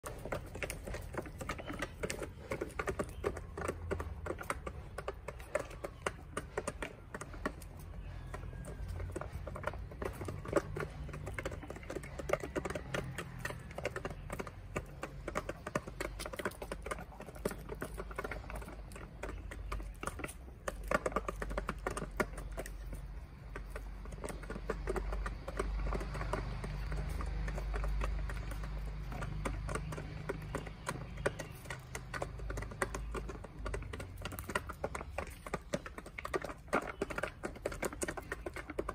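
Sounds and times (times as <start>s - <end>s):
chickens pecking plastic pan: 0.0s - 38.9s.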